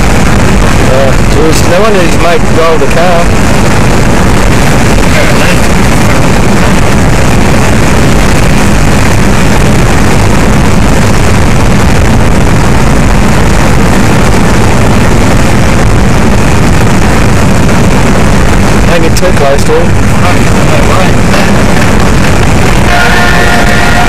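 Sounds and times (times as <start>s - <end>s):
car cabin road and engine noise: 0.0s - 24.0s.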